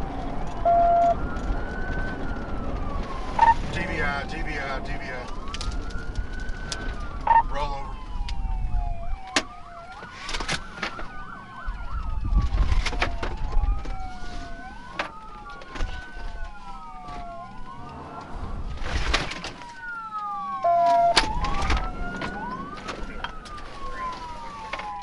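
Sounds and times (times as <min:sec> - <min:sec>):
engine and road rumble: 0:00.0 - 0:25.0
police sirens wailing: 0:00.0 - 0:25.0.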